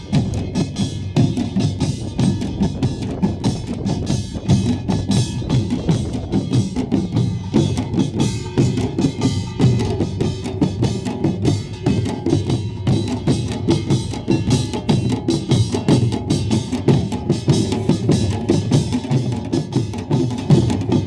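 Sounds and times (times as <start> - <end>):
small gongs clanging: 0.0 - 20.6
barrel drums: 0.0 - 21.0.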